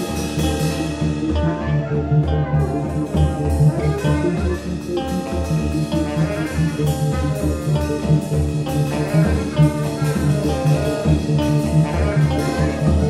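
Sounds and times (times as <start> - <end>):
electric guitar lines: 0.0 - 13.0
experimental jazz band: 0.0 - 13.0.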